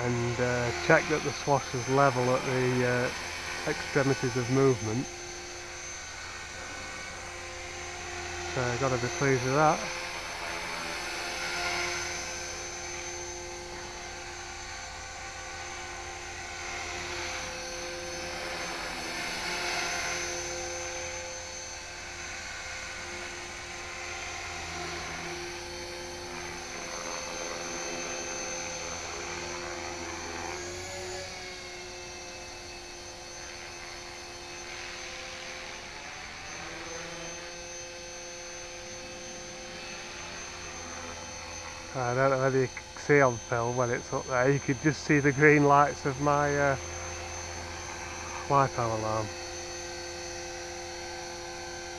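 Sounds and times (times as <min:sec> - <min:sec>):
electric motor whine: 0:00.0 - 0:51.9
rotor blades humming: 0:00.0 - 0:51.9.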